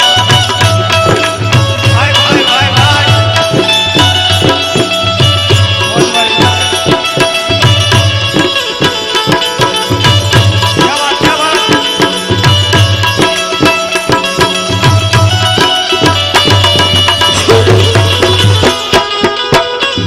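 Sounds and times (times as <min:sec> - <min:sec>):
hand drums: 0:00.0 - 0:20.0
sustained melodic instrument: 0:00.0 - 0:20.0.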